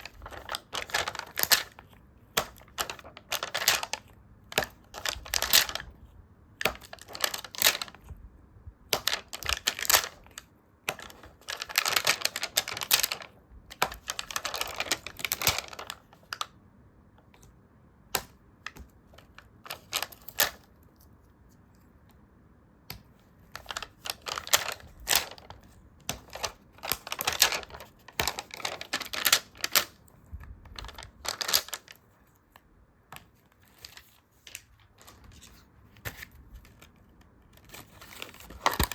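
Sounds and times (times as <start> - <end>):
paper and stickers crinkling: 0.0 - 8.2, 8.9 - 16.5, 18.2 - 21.9, 22.9 - 32.6, 33.2 - 38.9.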